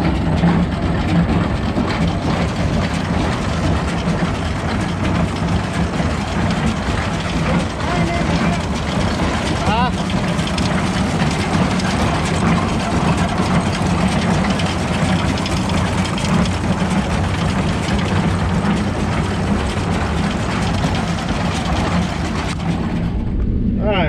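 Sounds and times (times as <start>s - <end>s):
heavy engine running: 0.0s - 24.0s.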